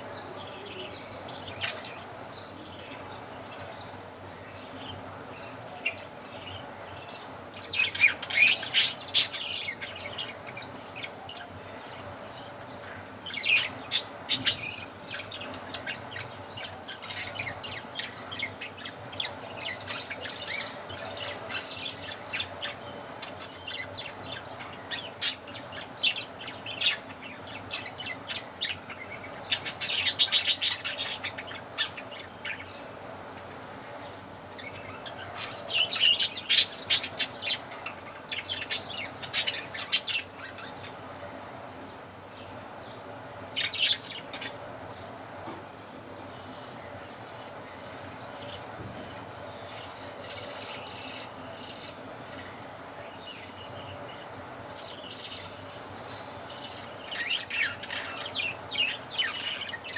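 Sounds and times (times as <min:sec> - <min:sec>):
faint steady hum: 0:00.0 - 0:59.9
budgerigars chirping and squawking: 0:00.2 - 0:04.0, 0:04.8 - 0:41.5, 0:43.4 - 0:45.1, 0:46.4 - 0:59.9.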